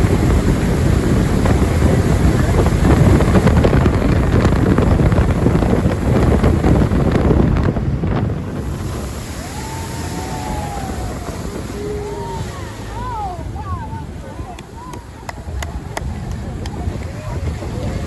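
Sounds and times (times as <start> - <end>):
boat engine at speed: 0.0 - 18.0
rushing water: 0.0 - 18.0
wind buffeting microphone: 0.0 - 18.0.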